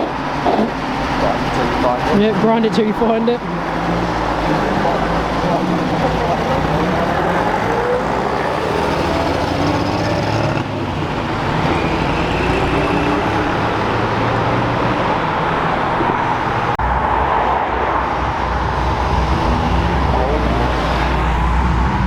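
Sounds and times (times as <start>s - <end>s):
car engines revving: 0.0s - 22.0s
traffic noise: 0.0s - 22.0s.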